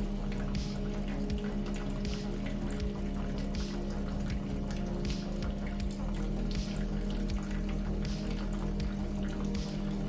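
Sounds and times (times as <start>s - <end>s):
water running into a bowl: 0.0s - 10.0s.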